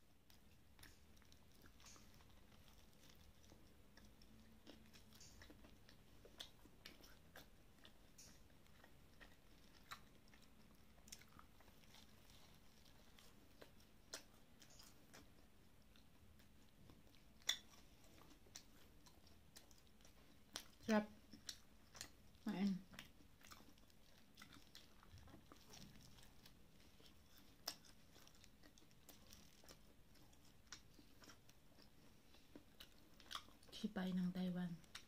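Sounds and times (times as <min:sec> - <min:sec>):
crunching and chewing: 0:00.0 - 0:35.0.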